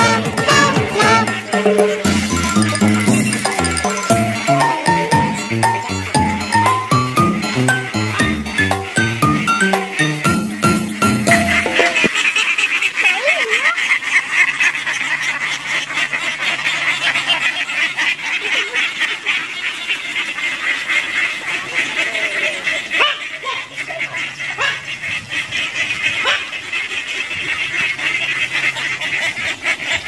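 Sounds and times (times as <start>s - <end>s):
flock of ducks quacking: 0.0s - 30.0s.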